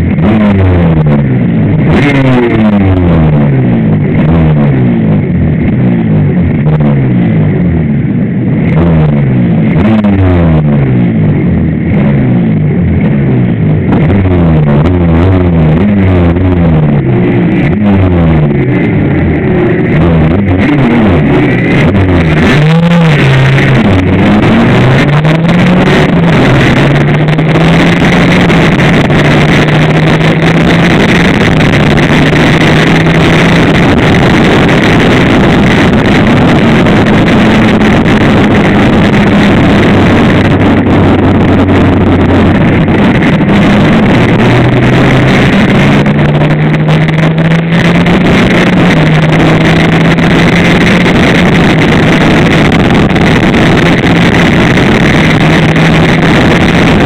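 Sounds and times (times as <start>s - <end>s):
two-stroke race engine revving: 0.0s - 57.0s
wind noise on microphone: 0.0s - 57.0s.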